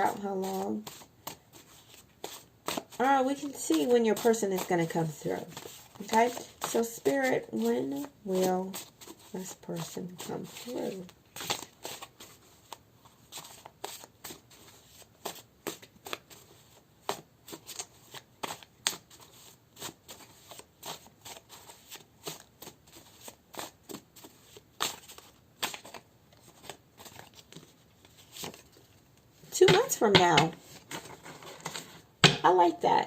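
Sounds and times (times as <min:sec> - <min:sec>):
cards being shuffled: 0:00.0 - 0:32.5.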